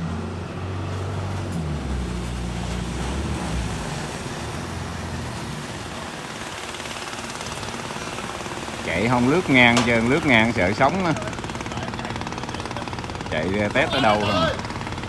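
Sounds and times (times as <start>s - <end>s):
speedboat engine hum: 0.0s - 15.0s
water spray rushing: 1.0s - 15.0s.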